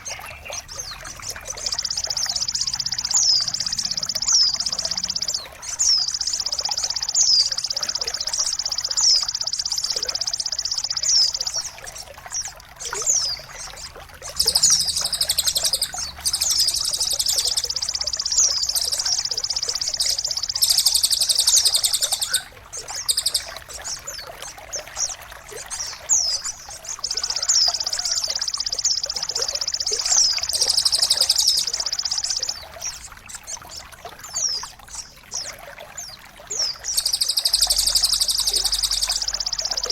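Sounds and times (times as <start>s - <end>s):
songbird trilling: 0.0s - 39.9s
water trickling: 0.0s - 39.9s.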